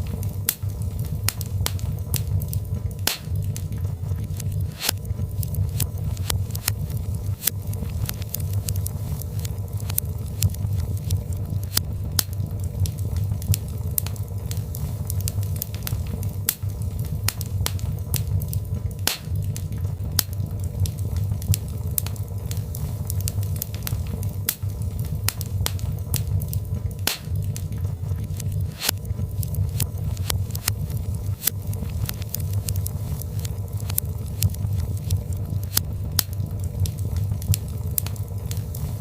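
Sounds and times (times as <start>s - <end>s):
fire crackling and popping: 0.0s - 39.0s
low rumble of flames: 0.0s - 39.0s.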